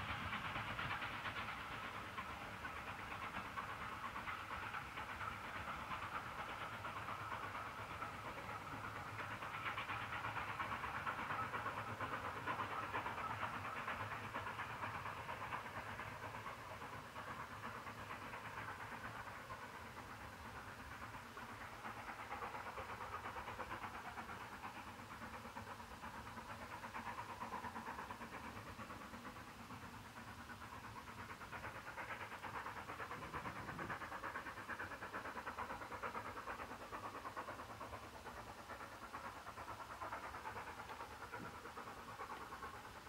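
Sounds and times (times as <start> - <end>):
distant steam locomotive chuffing: 0.0 - 43.0.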